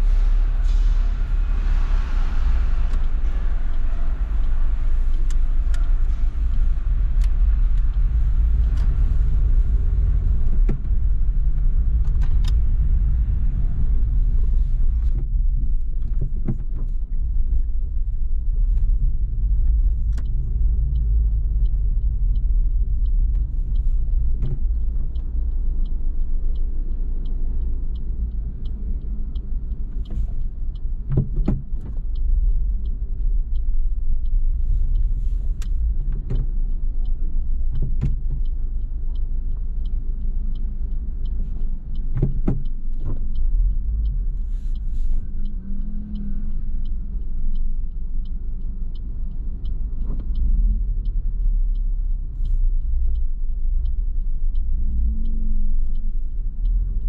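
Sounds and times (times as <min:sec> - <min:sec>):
car engine and road rumble: 0:00.0 - 0:57.0
light even ticking: 0:00.2 - 0:57.0.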